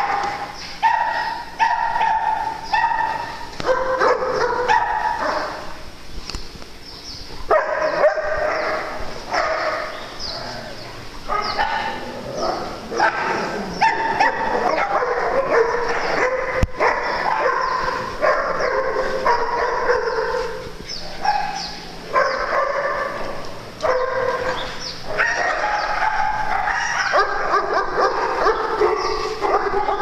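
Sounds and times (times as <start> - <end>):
many dogs barking: 0.0 - 5.9, 7.5 - 30.0.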